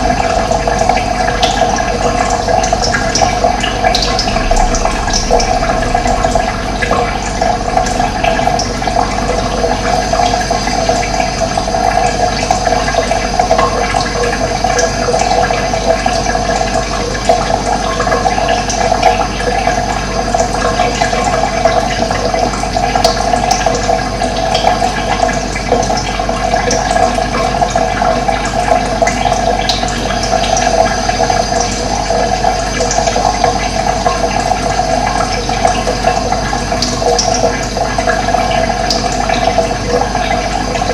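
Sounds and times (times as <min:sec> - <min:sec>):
running water flowing: 0:00.0 - 0:40.9.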